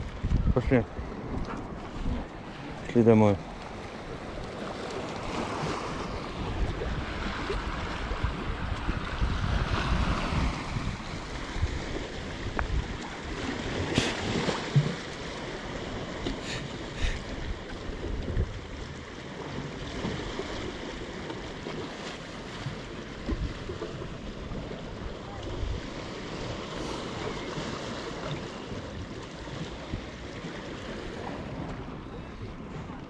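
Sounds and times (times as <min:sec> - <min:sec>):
wind on microphone: 0:00.0 - 0:15.0, 0:17.0 - 0:20.9, 0:22.6 - 0:33.0
small waves lapping against stone wall: 0:00.0 - 0:33.0.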